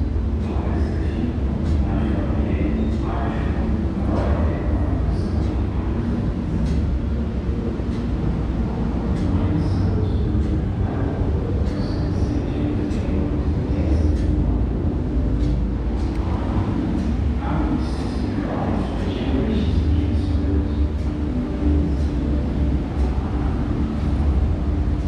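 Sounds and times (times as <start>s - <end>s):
low hall ambience rumble: 0.0s - 25.0s.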